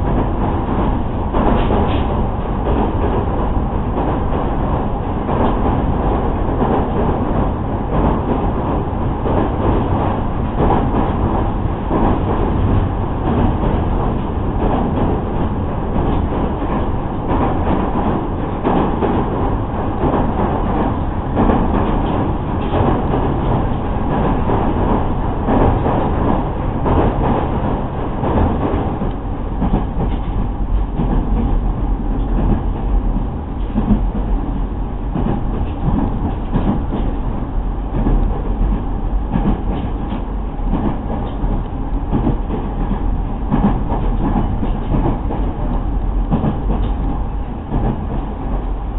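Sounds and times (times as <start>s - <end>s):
track clicks and clatter: 0.0s - 48.9s
train wheels rumbling on rail: 0.0s - 48.9s.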